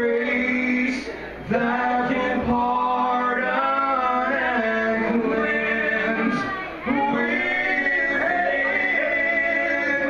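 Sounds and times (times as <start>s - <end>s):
acoustic guitar: 0.0s - 10.0s
bass: 0.0s - 10.0s
men singing in harmony: 0.0s - 10.0s.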